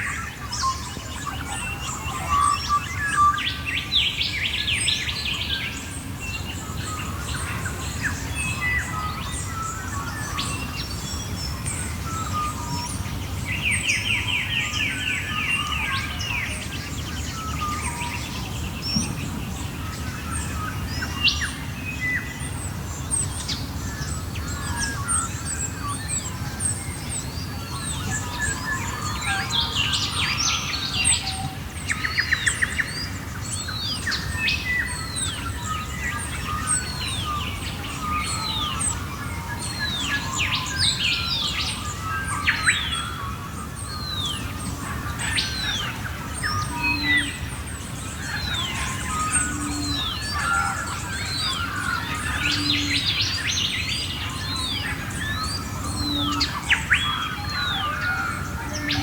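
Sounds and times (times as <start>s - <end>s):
birds singing: 0.0s - 59.0s.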